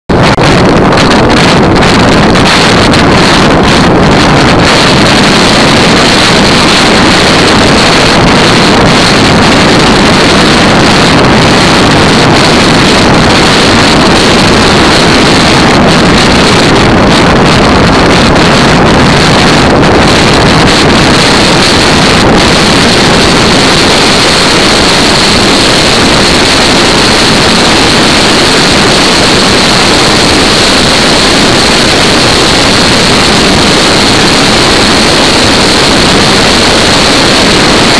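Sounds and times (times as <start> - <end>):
wind buffeting microphone: 0.1 - 37.9.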